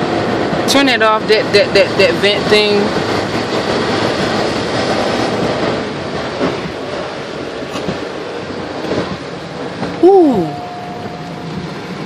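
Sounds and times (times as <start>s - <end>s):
tyres on flooded road: 0.0s - 12.0s.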